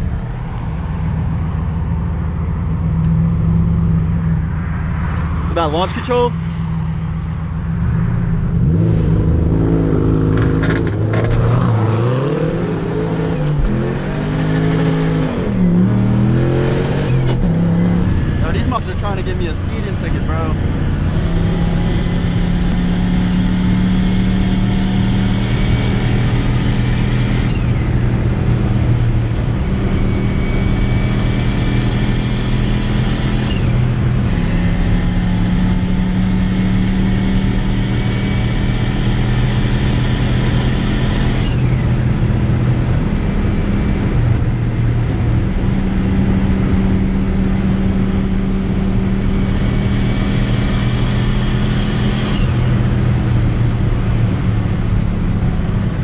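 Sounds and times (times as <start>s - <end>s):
car engine drone: 0.0s - 56.0s
road and wind noise: 0.0s - 56.0s.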